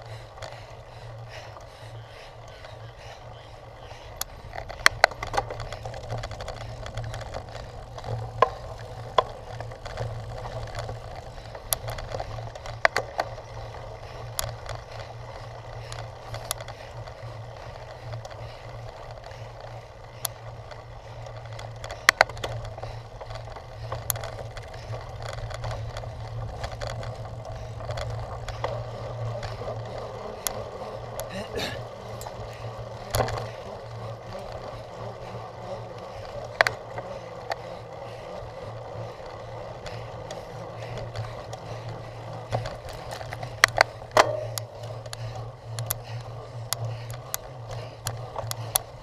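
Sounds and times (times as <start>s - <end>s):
bike rattling over rough ground: 0.0s - 49.0s.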